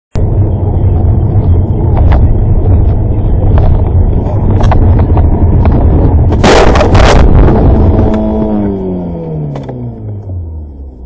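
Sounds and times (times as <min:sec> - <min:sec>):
engine and road noise: 0:00.1 - 0:11.0.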